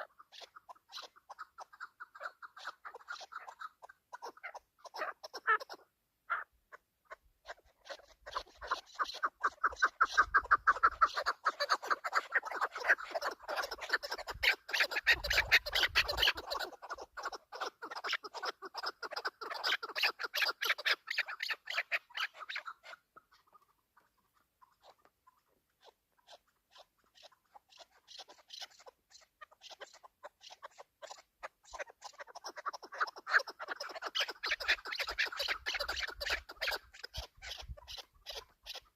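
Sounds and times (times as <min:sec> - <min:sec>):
partridge calling: 0:00.0 - 0:38.9.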